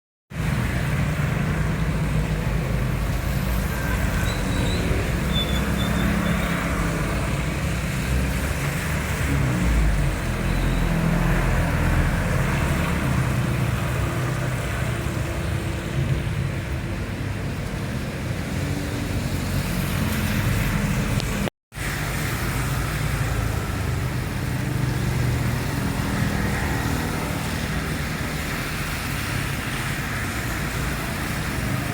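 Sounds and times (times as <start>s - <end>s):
tyres hissing on wet road: 0.4s - 31.9s.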